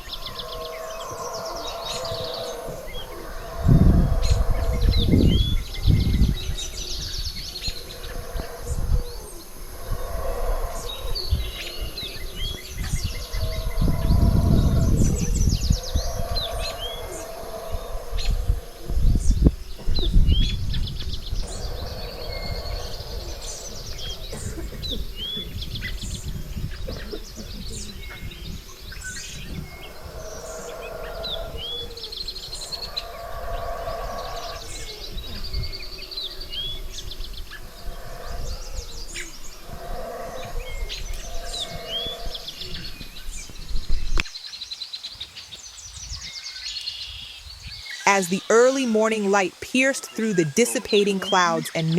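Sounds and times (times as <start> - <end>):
wind rumble on microphone: 0.0 - 44.4, 45.6 - 47.9
lower bird calls: 0.0 - 44.5
birds chirping and trilling: 0.0 - 51.9.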